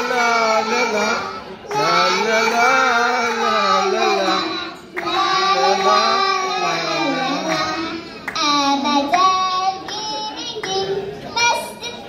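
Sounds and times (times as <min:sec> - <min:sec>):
girls singing together: 0:00.0 - 0:11.8.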